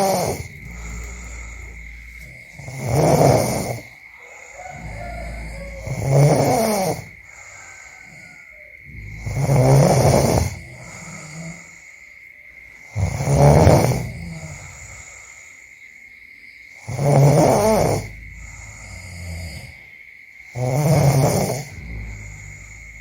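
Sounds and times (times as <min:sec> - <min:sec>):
person snoring: 0:00.0 - 0:11.9, 0:12.9 - 0:15.3, 0:16.9 - 0:19.9, 0:20.6 - 0:23.0
quiet breathing: 0:00.0 - 0:23.0.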